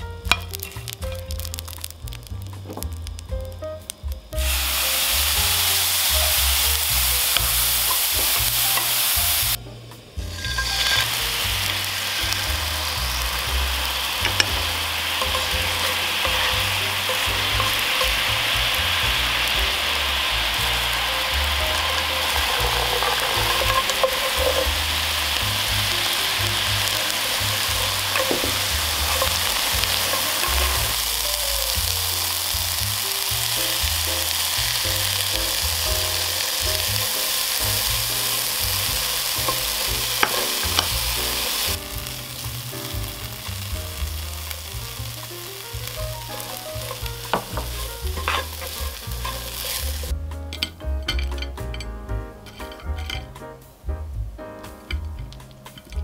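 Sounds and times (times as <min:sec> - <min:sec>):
food sizzling in a pan: 0:00.0 - 0:53.9, 0:54.6 - 0:56.0.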